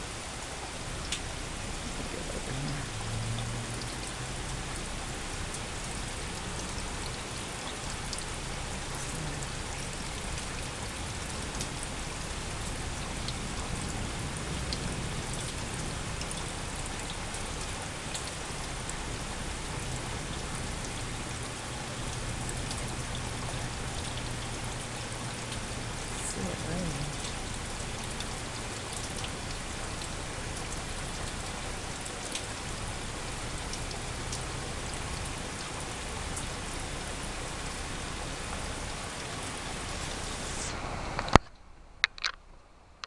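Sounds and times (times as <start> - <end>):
raindrops ticking: 0.0 - 40.4, 41.1 - 42.4
heavy rain falling: 0.0 - 41.5.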